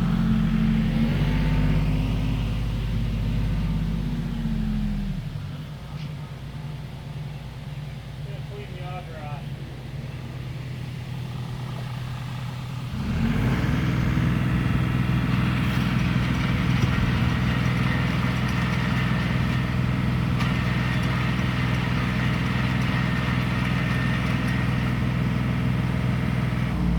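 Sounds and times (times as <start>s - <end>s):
tractor engine revving up: 0.0s - 5.5s, 9.7s - 26.9s.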